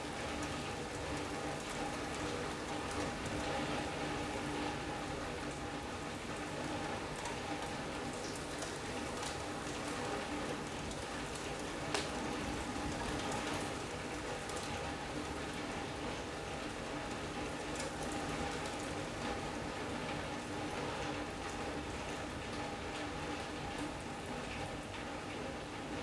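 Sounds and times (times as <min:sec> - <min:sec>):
rain on roof and windows: 0:00.0 - 0:26.0.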